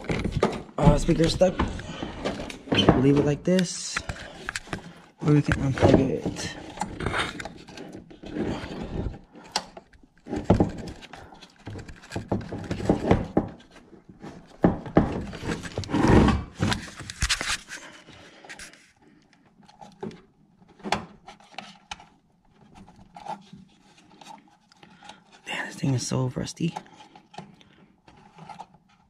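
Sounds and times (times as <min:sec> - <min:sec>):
plastic and metal parts handled: 0:00.0 - 0:25.5, 0:26.6 - 0:29.0.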